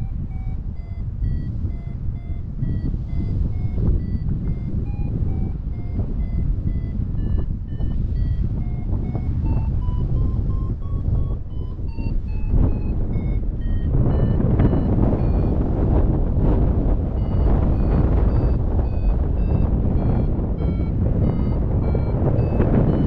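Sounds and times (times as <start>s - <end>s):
variometer beeping: 0.0s - 23.0s
wind rushing on microphone: 0.0s - 23.0s.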